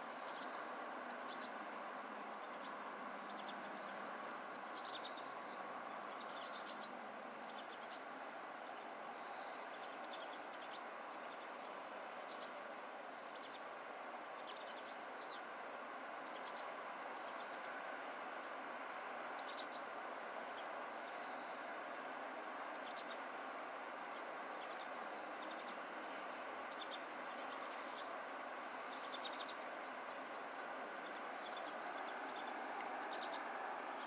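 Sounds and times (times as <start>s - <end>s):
distant road traffic hum: 0.0s - 34.0s
songbirds chirping: 0.0s - 34.0s.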